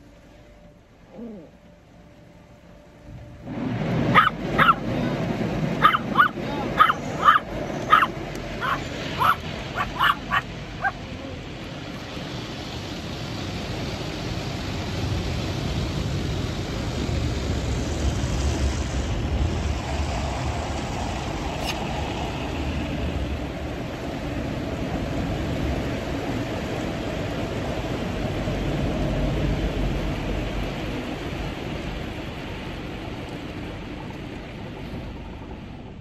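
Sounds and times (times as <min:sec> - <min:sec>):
car wash rushing noise: 0:02.4 - 0:36.0.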